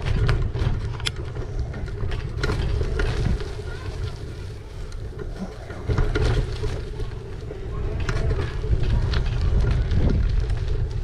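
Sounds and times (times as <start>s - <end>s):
small clicks and rattles: 0.0s - 11.0s
tyre noise: 0.0s - 11.0s
wind buffeting microphone: 0.0s - 11.0s.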